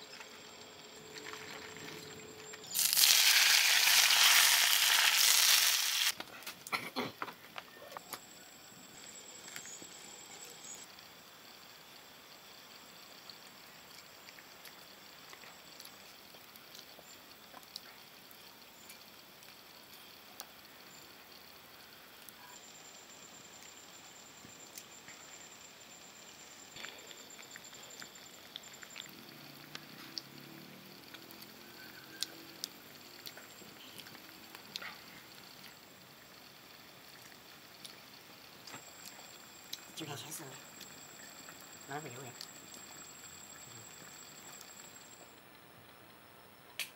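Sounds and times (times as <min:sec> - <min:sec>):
faint high pulsing chirr: 0:00.0 - 0:06.1, 0:07.6 - 0:13.9, 0:19.8 - 0:45.5
faint high-pitched whine: 0:00.0 - 0:46.9.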